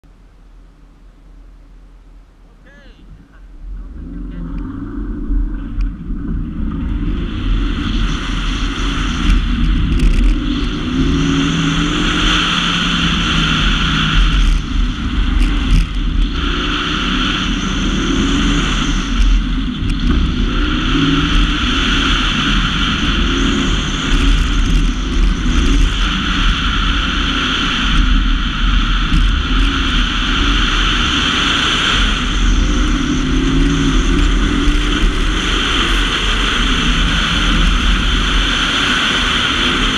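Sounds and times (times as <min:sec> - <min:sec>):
car engine revving: 0:02.4 - 0:39.9.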